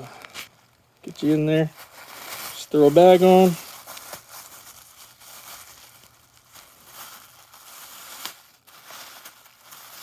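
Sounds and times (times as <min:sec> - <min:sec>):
bag rustling and crackling: 0:00.1 - 0:10.0.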